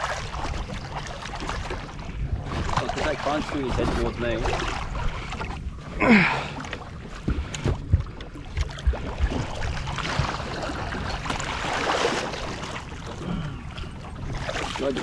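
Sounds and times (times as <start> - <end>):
water lapping against boat: 0.0 - 15.0
water splashing: 0.0 - 15.0
wind: 0.0 - 15.0.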